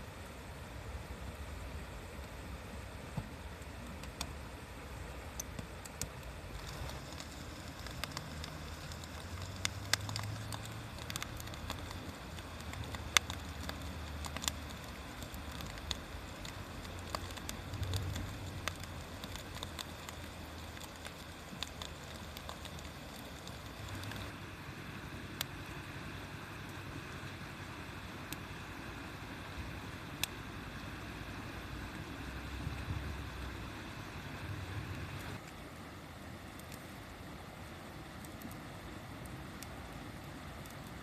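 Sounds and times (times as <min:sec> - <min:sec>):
low steady rumble: 0:00.0 - 0:41.0
wood fire crackling and popping: 0:03.0 - 0:35.6, 0:36.4 - 0:37.3, 0:38.0 - 0:41.0.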